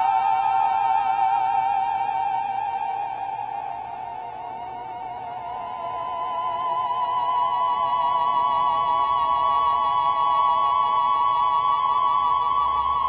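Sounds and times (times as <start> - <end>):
theremin note with vibrato: 0.0 - 13.0.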